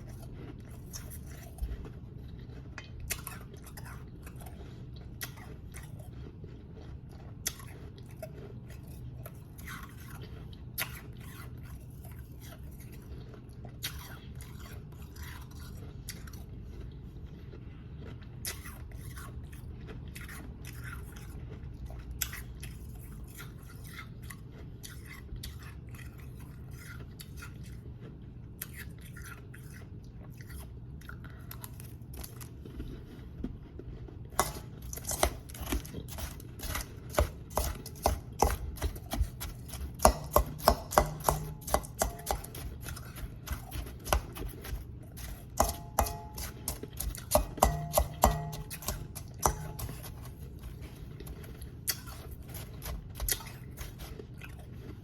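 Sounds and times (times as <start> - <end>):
crunching and chewing ice: 0.0 - 55.0
steady low hum: 0.0 - 55.0.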